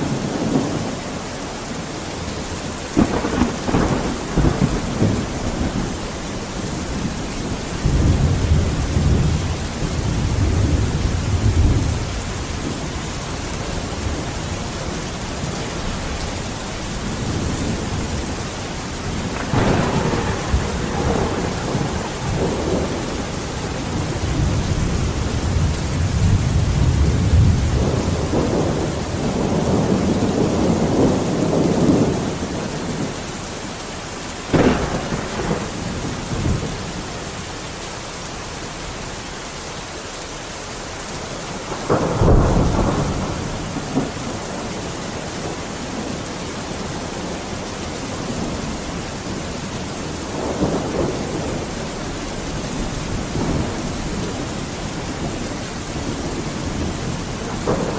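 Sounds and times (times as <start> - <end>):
steady rain: 0.0 - 57.9
thunder rumbling: 2.3 - 33.2, 34.5 - 37.4, 41.5 - 46.2, 48.2 - 57.9.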